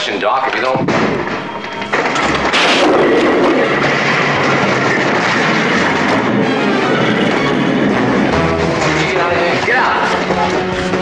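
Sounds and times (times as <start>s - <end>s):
dramatic music: 0.8s - 11.0s.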